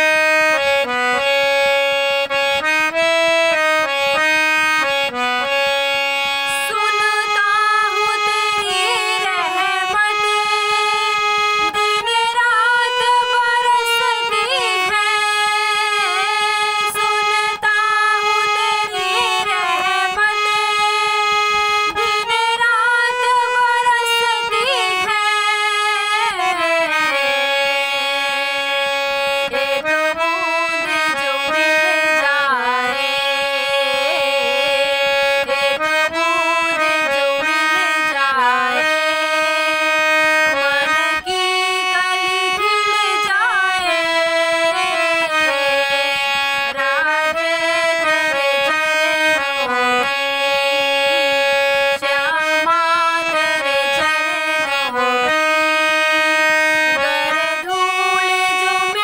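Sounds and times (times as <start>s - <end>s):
harmonium notes: 0.0s - 59.0s
woman singing: 5.8s - 49.7s, 50.4s - 59.0s.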